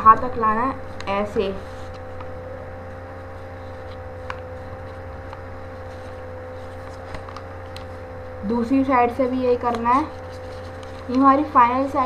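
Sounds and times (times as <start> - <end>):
low drone: 0.0 - 12.0
steady mid-pitched hum: 0.0 - 12.0
paper being folded: 0.9 - 8.1, 9.5 - 12.0.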